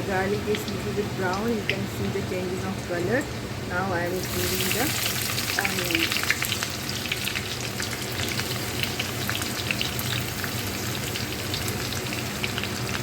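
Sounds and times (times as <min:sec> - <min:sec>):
onion and garlic frying in oil: 0:00.0 - 0:13.0.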